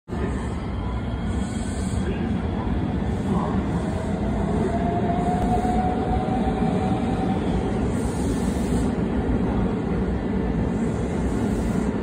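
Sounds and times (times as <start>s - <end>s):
electric train rumbling: 0.1s - 12.0s
faint train whine: 0.1s - 12.0s.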